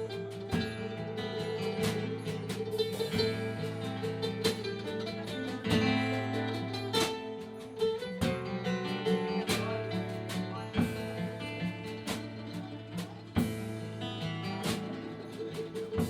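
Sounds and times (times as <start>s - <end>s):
live band playing slow song: 0.0s - 16.0s
strummed acoustic guitar: 0.0s - 16.0s.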